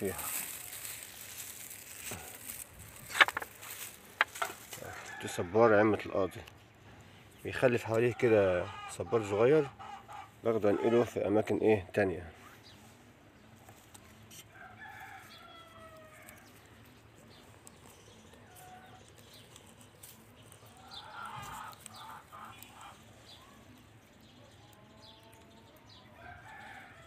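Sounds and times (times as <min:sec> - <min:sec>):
chickens calling: 0:00.0 - 0:11.5, 0:13.4 - 0:27.0.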